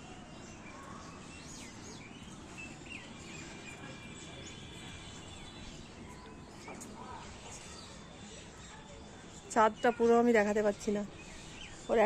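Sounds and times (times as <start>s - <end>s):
open-air background noise: 0.0s - 12.0s.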